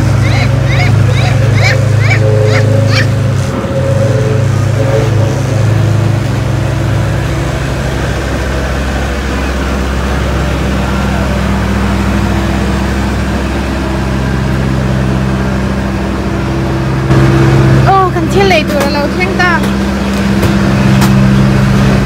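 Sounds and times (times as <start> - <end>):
road roller diesel engine running: 0.0 - 22.0.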